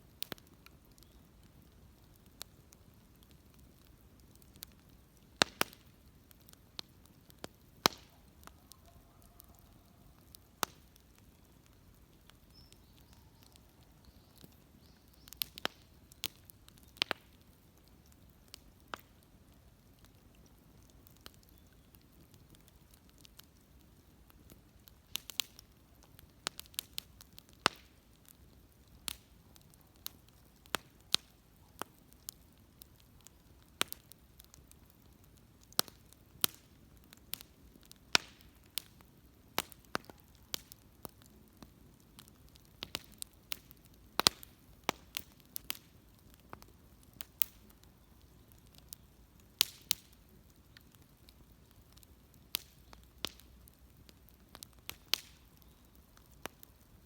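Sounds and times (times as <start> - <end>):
burning wood popping: 0.0 - 57.0
wood fire crackling: 0.0 - 57.0.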